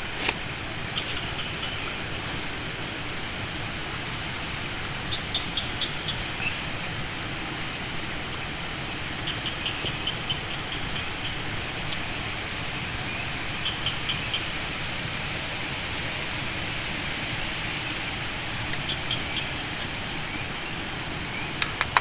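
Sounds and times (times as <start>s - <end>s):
steady night background hiss: 0.0s - 22.0s.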